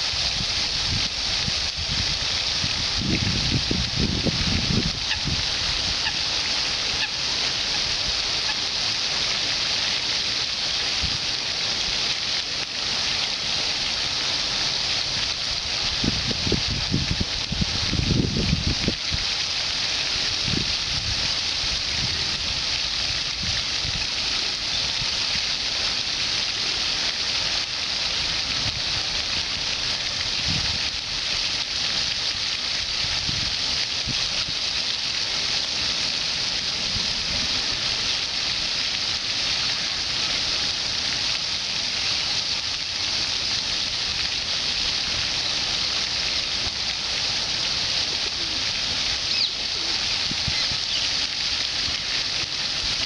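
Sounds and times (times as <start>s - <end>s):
steady water hiss: 0.0s - 53.0s.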